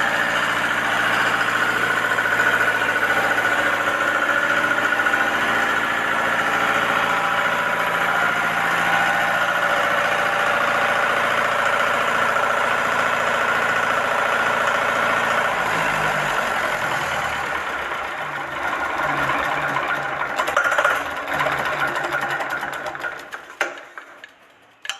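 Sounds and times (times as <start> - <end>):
car engine running: 0.0 - 24.7.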